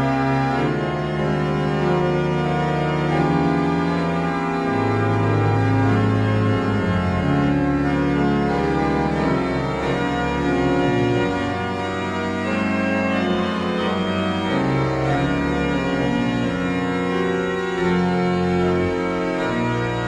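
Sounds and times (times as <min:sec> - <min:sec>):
organ-like keyboard chords: 0:00.0 - 0:20.0.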